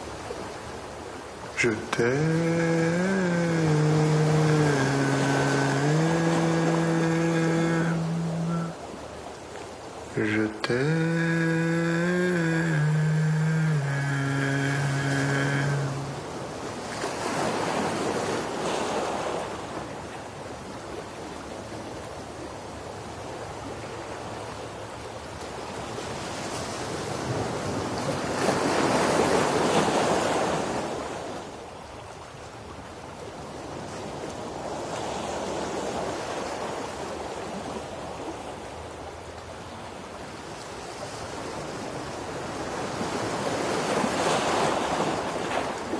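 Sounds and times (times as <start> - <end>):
ocean waves washing onto shore: 0.0 - 45.9.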